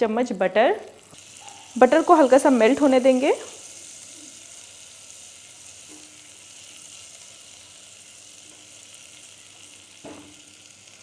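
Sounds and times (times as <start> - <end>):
butter sizzling in saucepan: 0.8 - 11.0.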